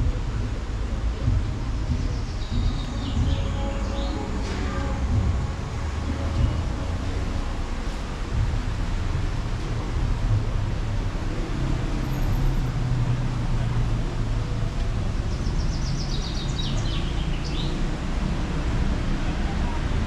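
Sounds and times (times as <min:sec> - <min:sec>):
low rumble of street traffic: 0:00.0 - 0:20.0.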